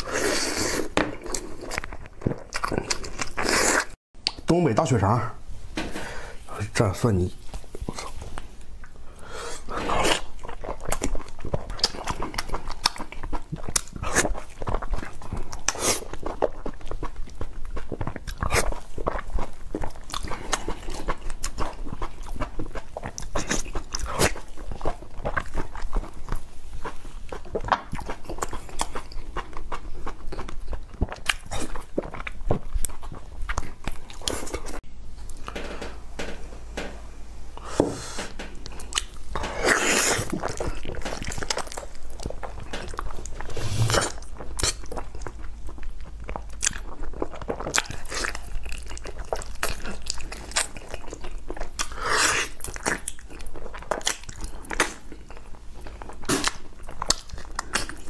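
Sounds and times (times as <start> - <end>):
chewing with mouth clicks: 0.0 - 4.4, 9.6 - 35.4, 38.6 - 58.0.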